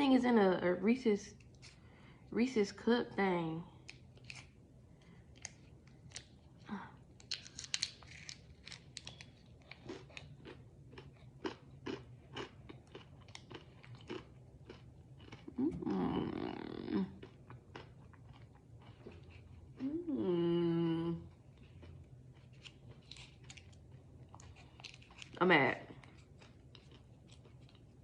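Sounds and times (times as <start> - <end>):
crunching and chewing snacks: 3.8 - 20.0, 21.3 - 28.0.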